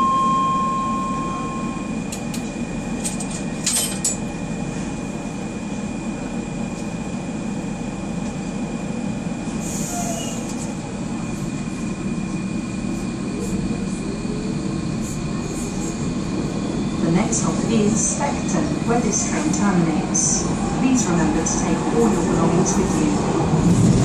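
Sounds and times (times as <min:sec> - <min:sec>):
high-pitched train whine: 0:00.0 - 0:24.0
train wheels rumbling on track: 0:01.8 - 0:24.0.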